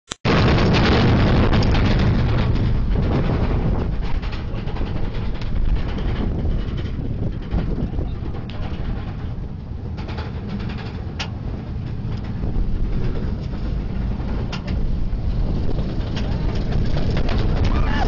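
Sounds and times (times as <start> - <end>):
roller coaster rumble: 0.3 - 18.0
wind on microphone: 0.3 - 18.0.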